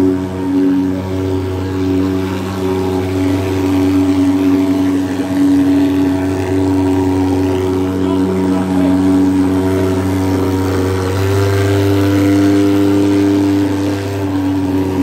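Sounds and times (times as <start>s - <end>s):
fogging machine droning: 0.0s - 15.0s.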